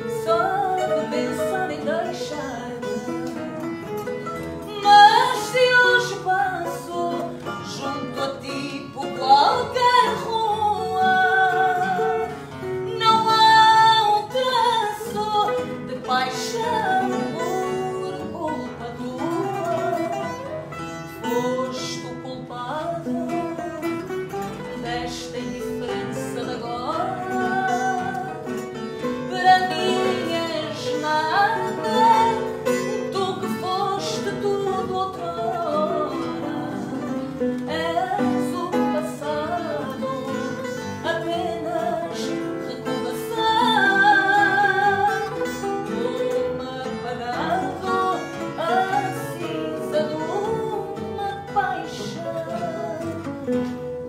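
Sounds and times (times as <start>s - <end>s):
guitars playing: 0.0s - 54.0s
woman singing with vibrato: 0.0s - 54.0s.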